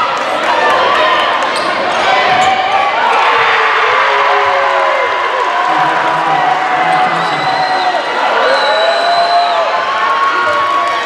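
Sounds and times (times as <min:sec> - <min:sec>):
crowd cheering and yelling: 0:00.0 - 0:11.0.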